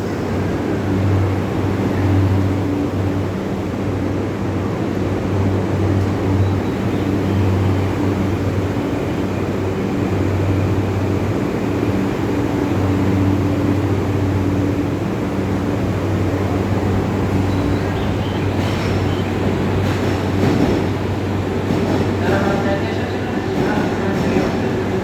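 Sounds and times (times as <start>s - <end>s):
electric train humming: 0.0s - 25.0s
train rumble: 0.0s - 25.0s.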